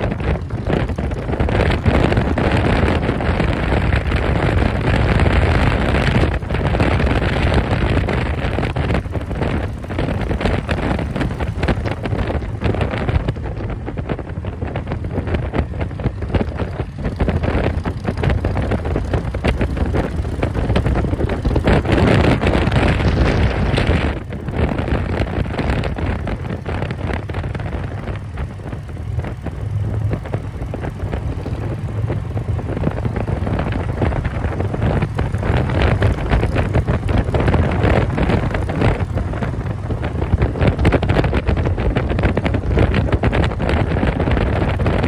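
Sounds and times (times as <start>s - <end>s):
motorcycle engine and road rumble: 0.0s - 45.0s
wind buffeting microphone: 0.0s - 45.0s.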